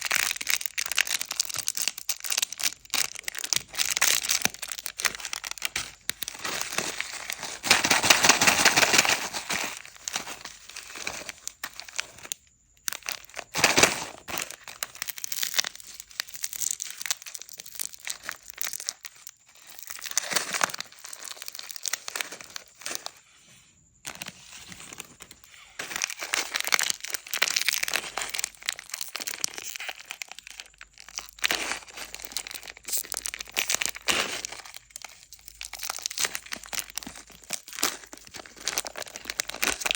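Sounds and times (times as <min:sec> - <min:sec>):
snack wrappers crinkling and tearing: 0:00.0 - 0:23.2, 0:24.1 - 0:39.9.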